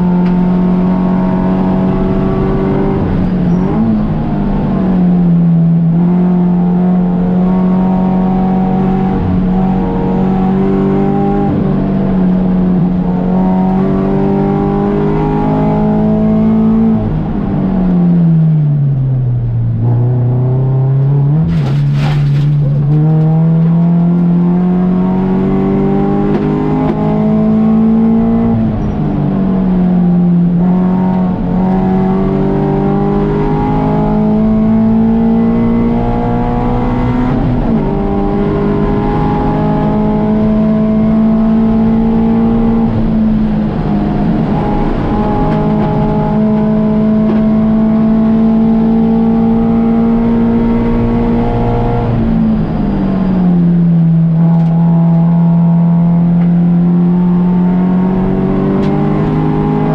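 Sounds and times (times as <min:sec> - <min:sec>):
race car engine revving: 0:00.0 - 0:18.3, 0:19.8 - 0:59.9.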